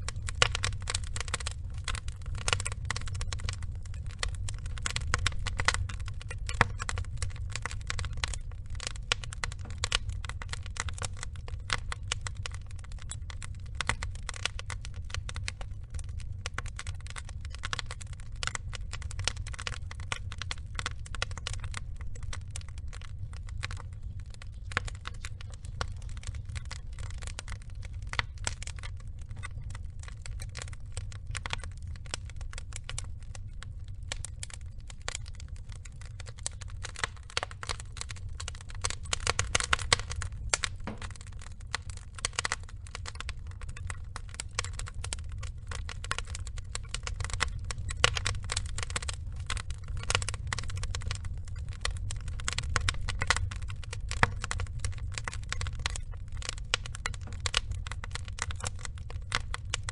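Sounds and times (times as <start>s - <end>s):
low steady rumble: 0.0s - 59.9s
wood fire crackling and popping: 0.0s - 59.9s.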